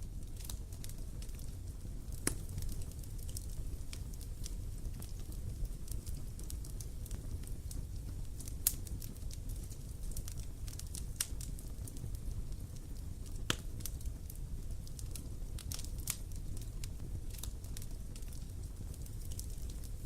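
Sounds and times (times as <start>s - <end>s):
burning wood crackling and popping: 0.0s - 20.0s
campfire low rumble: 0.0s - 20.0s.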